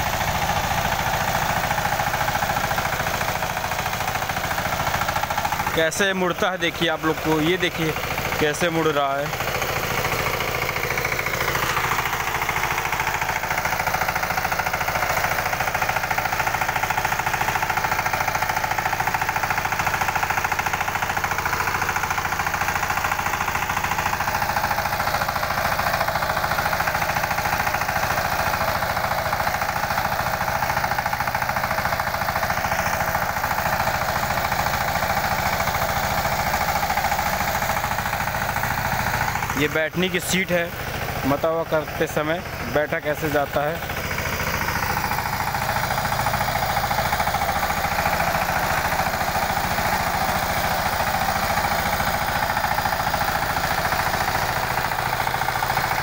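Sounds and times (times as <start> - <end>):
tractor engine clattering: 0.0 - 56.0.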